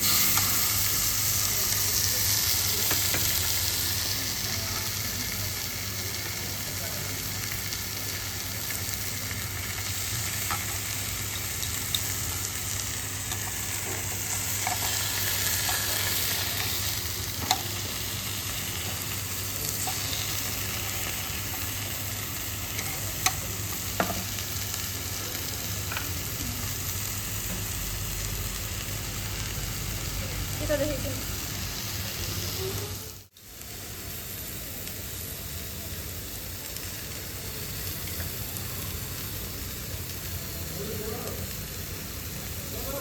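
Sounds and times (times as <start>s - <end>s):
meat sizzling on a grill: 0.0s - 43.0s.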